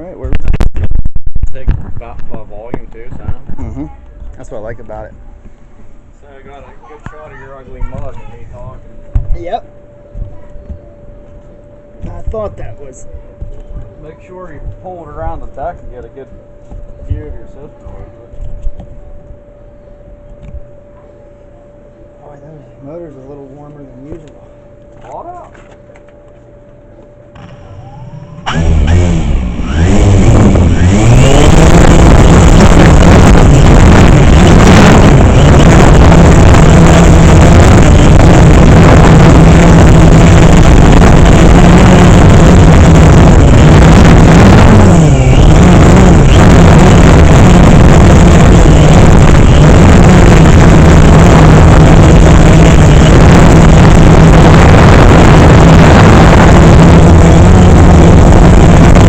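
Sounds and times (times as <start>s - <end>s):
drone propellers buzzing: 7.6s - 59.0s.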